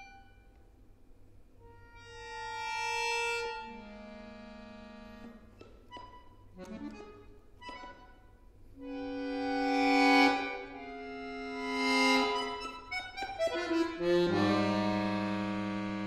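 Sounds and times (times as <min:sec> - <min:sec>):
accordion playing: 0:00.0 - 0:00.4, 0:01.6 - 0:16.0
accordion clicks: 0:02.0 - 0:08.2, 0:08.8 - 0:16.0.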